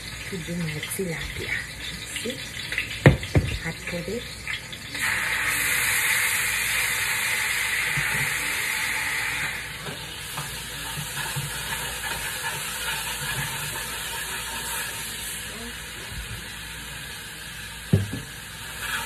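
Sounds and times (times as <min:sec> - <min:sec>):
hot oil sizzling in a pan: 0:00.0 - 0:19.0.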